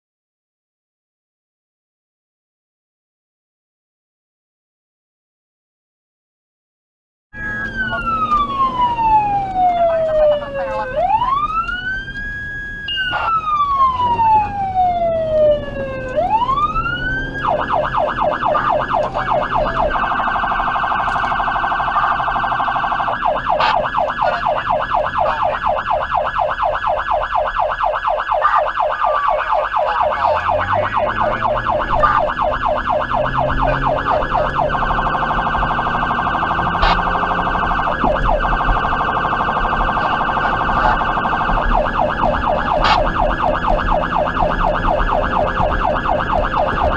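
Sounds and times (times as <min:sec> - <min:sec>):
car engine accelerating: 0:07.4 - 0:46.9
electronic siren wail and yelp: 0:07.4 - 0:46.9.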